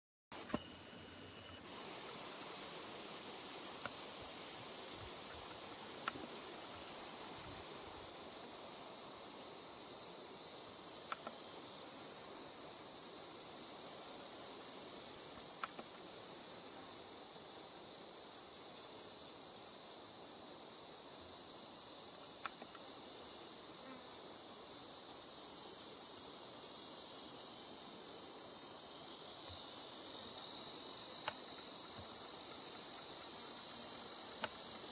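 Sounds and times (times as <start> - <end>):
high-pitched pulsing insect song: 0.3 - 34.9
low continuous insect buzz: 0.4 - 34.9.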